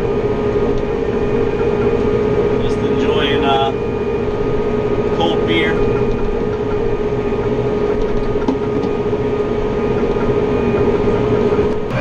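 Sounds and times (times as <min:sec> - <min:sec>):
tractor diesel engine drone: 0:00.0 - 0:12.0.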